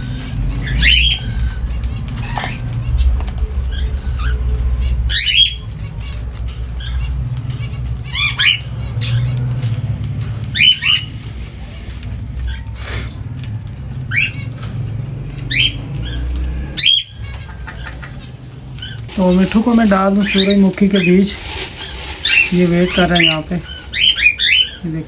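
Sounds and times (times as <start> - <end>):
birds squawking: 0.0 - 25.0
steady low rumble: 0.0 - 25.0.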